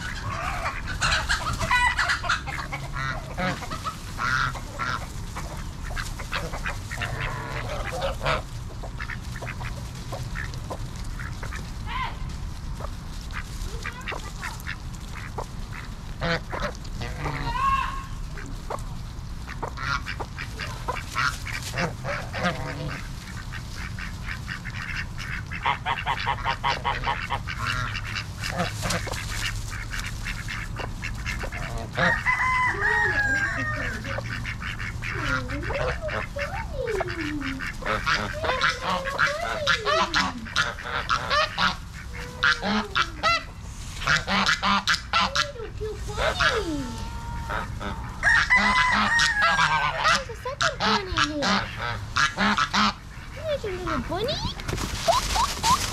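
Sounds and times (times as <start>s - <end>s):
geese honking: 0.0s - 55.9s.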